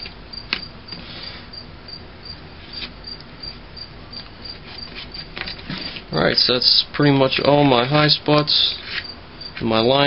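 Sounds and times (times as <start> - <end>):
insects chirping: 0.0 - 6.5, 8.1 - 10.0.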